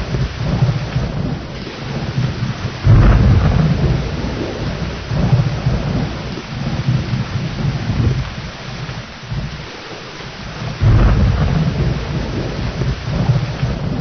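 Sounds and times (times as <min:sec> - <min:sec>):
heavy rain: 0:00.0 - 0:14.0
rolling thunder: 0:00.0 - 0:14.0.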